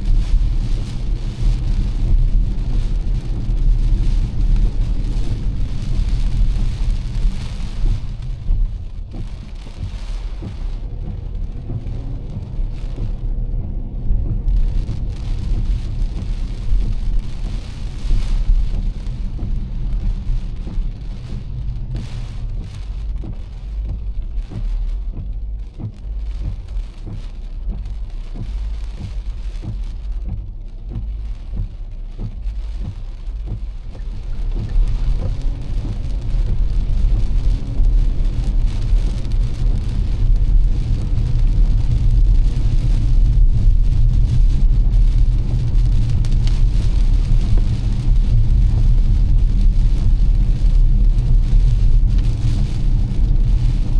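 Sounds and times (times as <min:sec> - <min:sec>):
heavy rain on a car: 0:00.0 - 0:53.9
tyres rumbling on wet road: 0:00.0 - 0:53.9.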